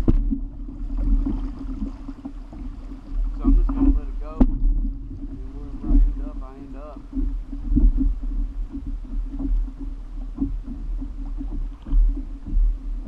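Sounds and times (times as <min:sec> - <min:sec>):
low rumble of wind and water: 0:00.0 - 0:13.0
water slapping against kayak hull: 0:00.0 - 0:13.0.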